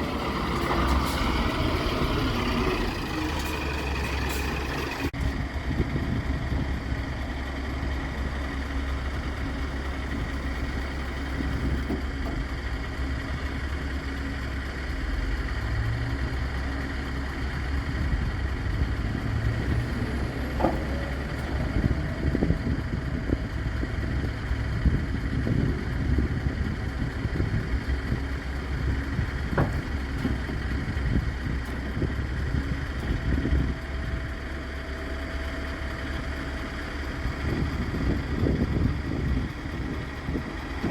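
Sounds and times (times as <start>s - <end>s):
truck diesel engine idling: 0.0s - 40.9s.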